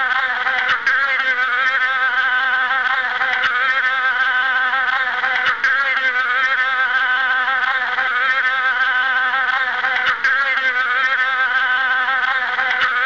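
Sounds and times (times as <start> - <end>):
sustained buzzy chord: 0.0 - 13.0.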